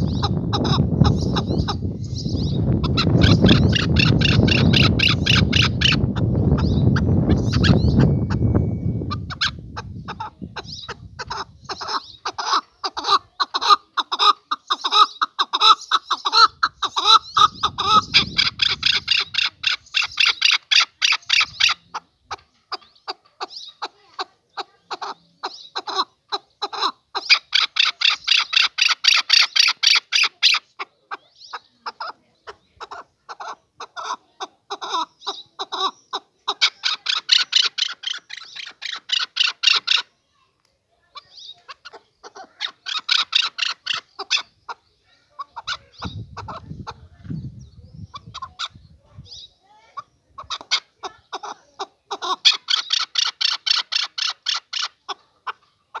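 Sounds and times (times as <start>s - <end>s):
partridge clucking calls: 0.0s - 40.1s, 41.1s - 56.0s.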